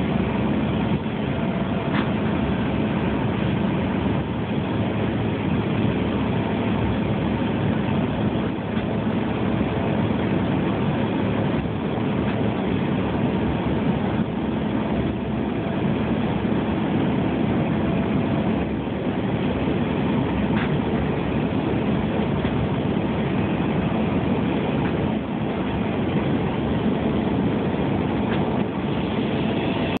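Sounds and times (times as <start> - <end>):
airflow: 0.0 - 30.0
jet engines droning: 0.0 - 30.0
low hum: 0.0 - 30.0.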